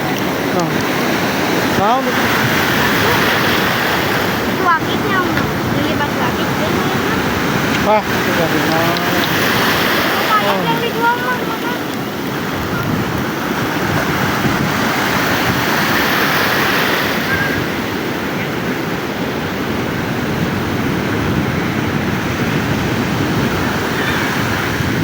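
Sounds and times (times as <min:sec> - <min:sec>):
sea waves breaking on beach: 0:00.0 - 0:25.0.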